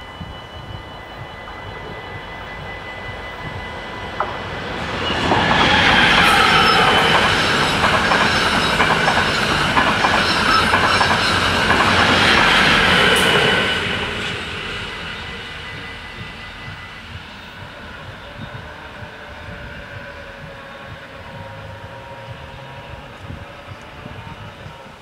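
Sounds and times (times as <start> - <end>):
high whine from train wheels: 0.0 - 25.0
train rumble: 0.0 - 25.0.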